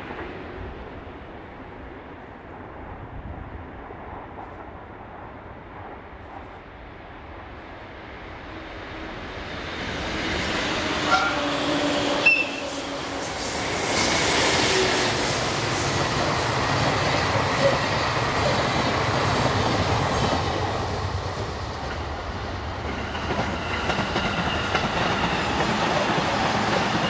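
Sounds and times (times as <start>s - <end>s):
electric train passing: 0.0s - 27.0s
train wheels running on rails: 0.0s - 27.0s.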